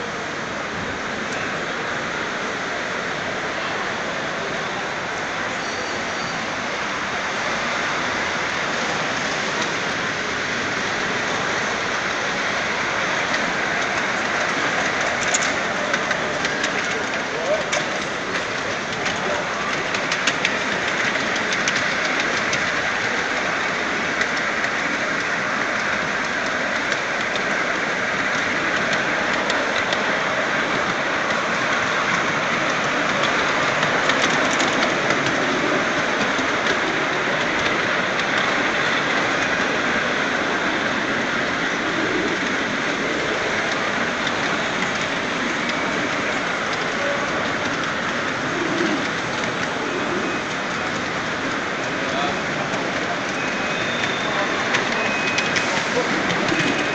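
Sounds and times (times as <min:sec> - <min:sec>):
miniature train rolling clatter: 0:00.0 - 0:56.9
wheels clicking over rail joints: 0:00.0 - 0:56.9.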